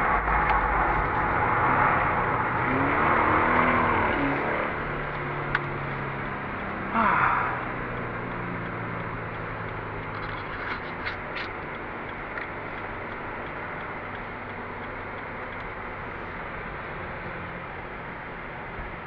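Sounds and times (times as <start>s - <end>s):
car engine running: 0.0s - 19.0s
tyre and road noise: 0.0s - 19.0s.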